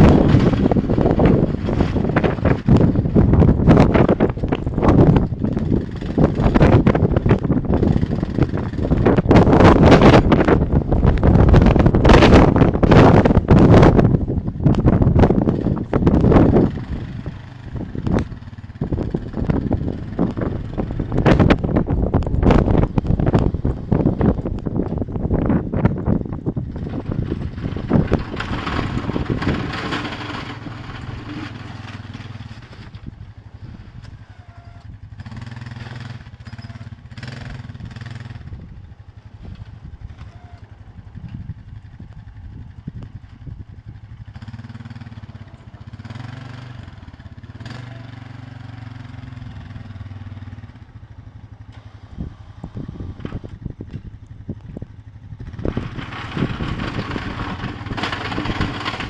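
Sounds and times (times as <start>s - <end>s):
engine humming: 0.0s - 59.0s
wind buffeting microphone: 0.0s - 59.0s.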